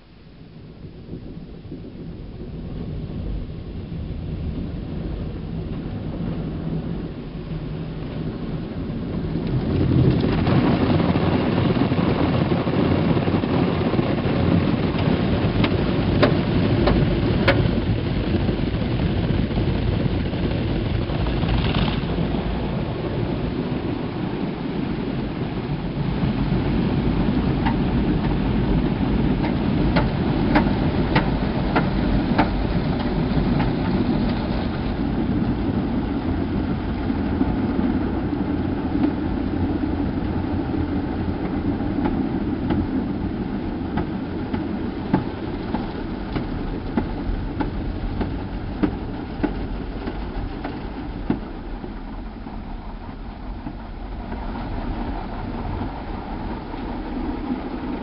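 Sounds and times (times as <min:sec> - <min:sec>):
car wash machine rumble: 0:00.0 - 0:58.0.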